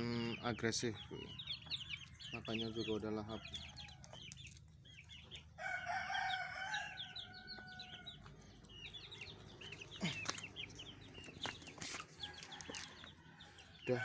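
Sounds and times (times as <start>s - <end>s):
chickens chirping and clucking: 0.0s - 14.0s.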